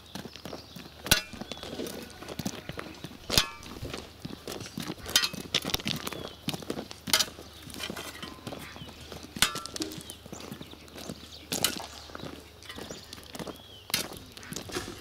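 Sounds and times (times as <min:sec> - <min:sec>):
footsteps on gravel: 0:00.0 - 0:15.0.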